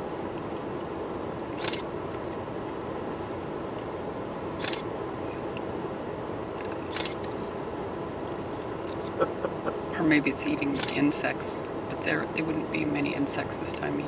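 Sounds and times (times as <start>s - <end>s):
vehicle interior hum: 0.0s - 14.0s.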